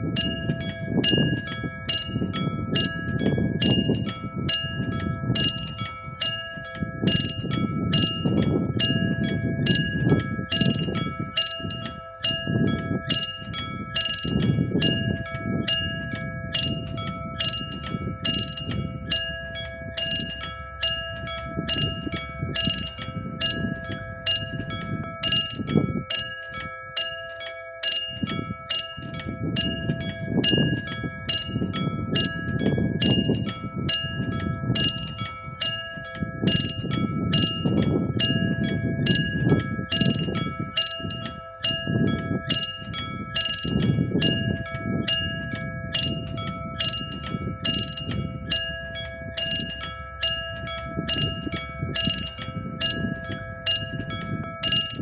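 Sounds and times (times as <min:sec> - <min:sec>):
level crossing bells ringing: 0:00.0 - 0:55.0.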